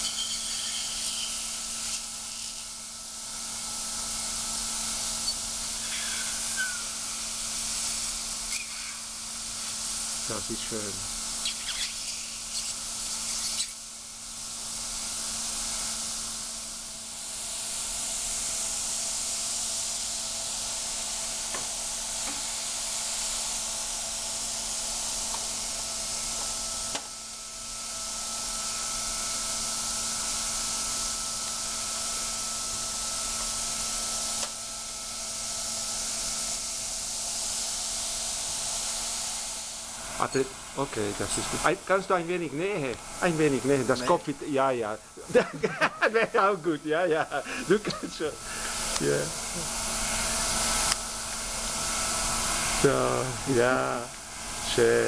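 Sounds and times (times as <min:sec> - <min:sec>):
high-pitched gas hiss: 0:00.0 - 0:26.3, 0:28.3 - 0:55.0.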